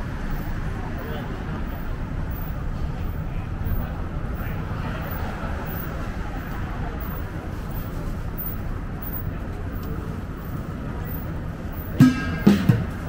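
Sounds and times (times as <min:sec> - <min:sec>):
murmur of crowd voices: 0:00.0 - 0:13.0
traffic rumble: 0:00.0 - 0:13.0.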